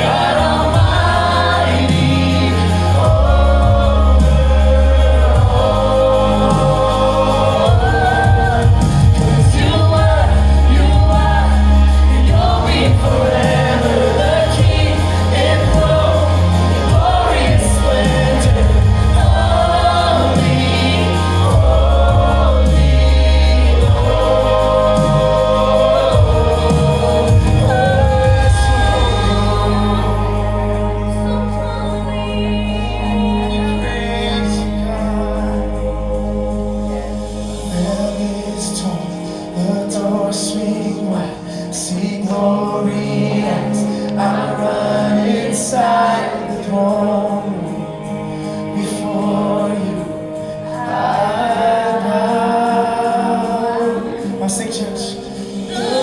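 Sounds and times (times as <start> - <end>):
band accompaniment: 0.0 - 56.0
choir singing: 0.0 - 56.0
sustained bass line: 0.0 - 56.0.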